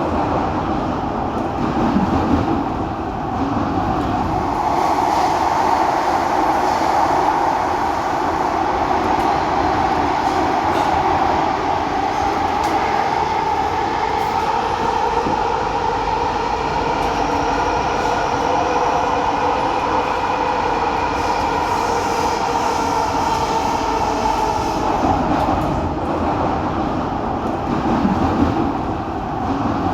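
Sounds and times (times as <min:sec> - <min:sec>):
moving train rumble: 0:00.0 - 0:29.9.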